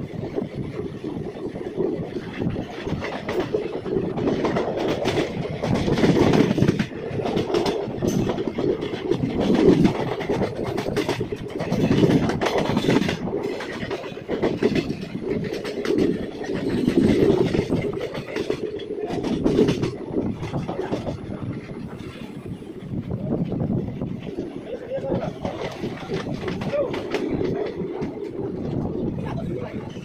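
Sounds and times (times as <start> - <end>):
train wheels rumbling on rails: 0.0 - 30.0
wheels clacking over rail joints: 0.0 - 30.0.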